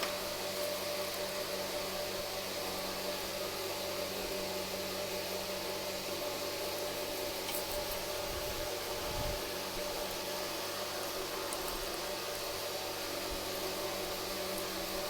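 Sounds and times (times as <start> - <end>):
faint continuous hum: 0.0 - 15.0.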